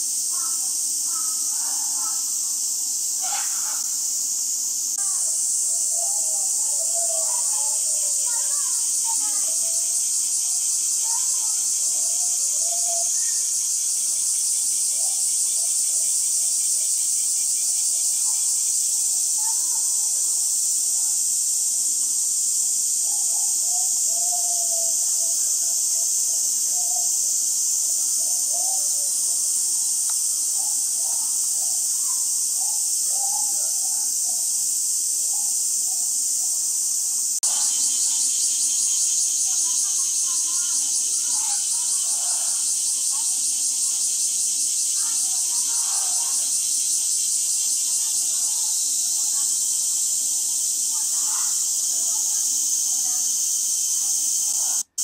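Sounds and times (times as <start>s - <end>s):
faint distant voices: 0.0s - 55.0s
insect chorus buzzing: 0.0s - 55.0s.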